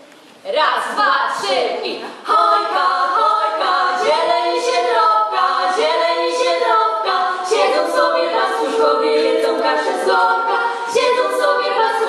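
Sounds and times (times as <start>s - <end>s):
women singing in harmony: 0.8s - 12.0s.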